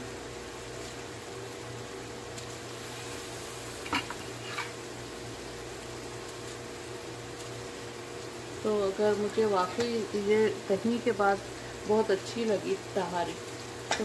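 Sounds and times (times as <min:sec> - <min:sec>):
food sizzling in oil: 0:00.0 - 0:14.0
steady low hum: 0:00.0 - 0:14.0.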